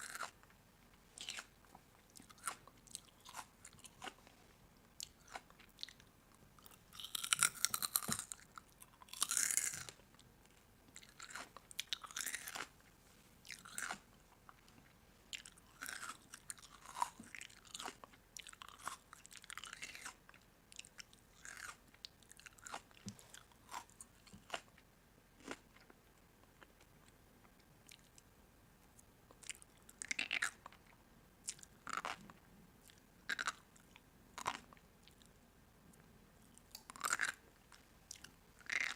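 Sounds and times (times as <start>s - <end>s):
crunchy food chewing: 0.0s - 0.5s, 1.2s - 4.4s, 5.0s - 12.8s, 13.4s - 28.2s, 29.3s - 35.3s, 36.5s - 38.9s.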